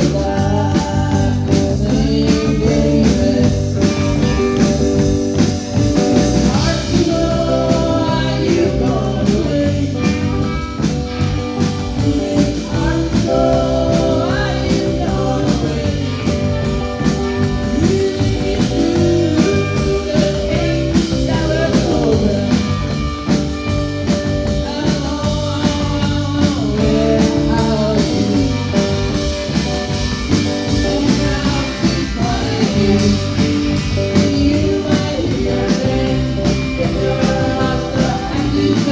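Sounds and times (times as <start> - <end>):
woman singing: 0.0 - 4.6, 6.3 - 10.3, 12.1 - 16.9, 17.5 - 23.0, 24.4 - 29.0, 30.6 - 38.9
drums: 0.0 - 38.9
electric guitars: 0.0 - 38.9.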